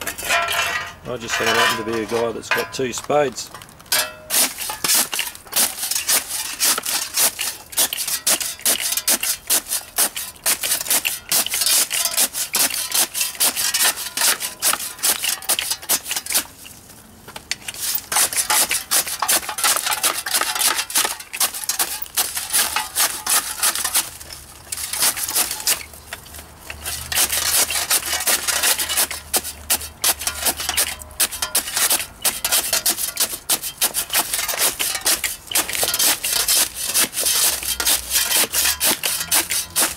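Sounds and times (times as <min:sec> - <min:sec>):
spades chopping in a metal bucket: 0:00.0 - 0:16.7, 0:17.3 - 0:39.9
crushing and grinding damp lumps: 0:00.0 - 0:39.9.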